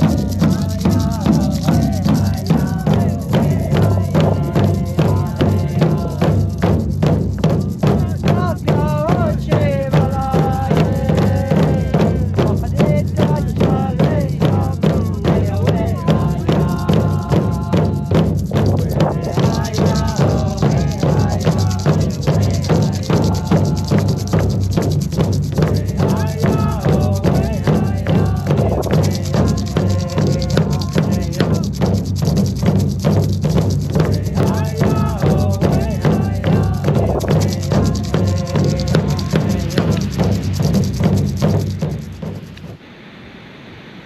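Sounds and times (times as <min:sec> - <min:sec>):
voices singing: 0:00.0 - 0:42.7
hand drums beating: 0:00.0 - 0:42.8.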